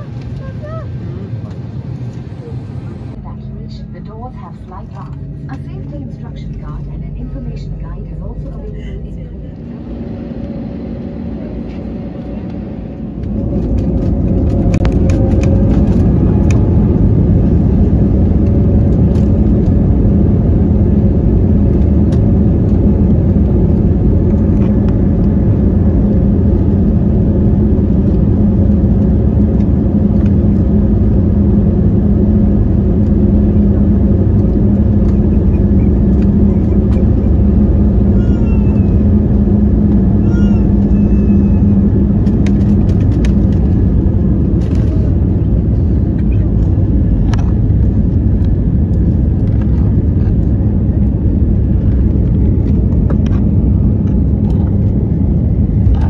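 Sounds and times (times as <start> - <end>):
jet engines rumbling: 0.0 - 56.0
wheels rumbling on runway: 0.0 - 56.0.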